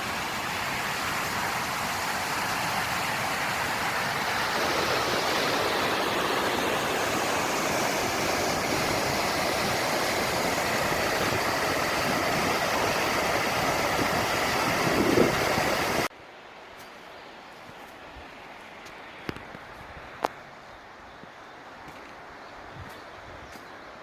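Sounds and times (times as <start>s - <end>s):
stream water rushing: 0.0s - 22.4s.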